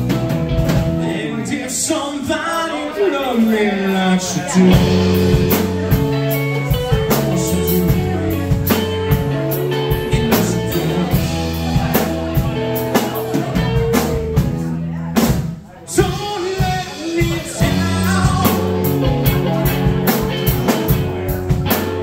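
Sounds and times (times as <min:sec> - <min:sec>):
drum kit steady beat: 0:00.0 - 0:01.2, 0:04.4 - 0:22.0
electric bass: 0:00.0 - 0:01.4, 0:04.4 - 0:22.0
electric guitar: 0:00.0 - 0:01.5, 0:03.2 - 0:15.4, 0:16.0 - 0:22.0.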